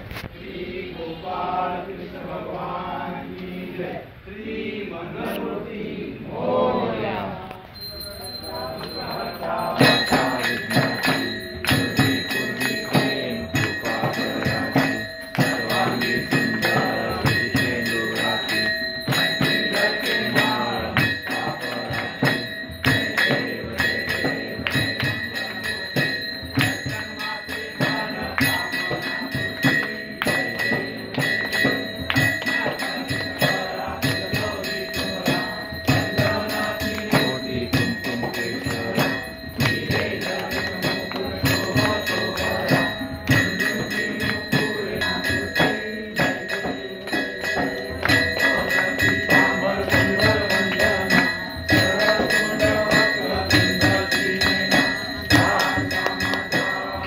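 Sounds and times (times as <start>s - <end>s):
devotional singing: 0.0s - 57.0s
rhythmic clapping: 7.5s - 57.0s
bell ringing: 7.6s - 57.0s.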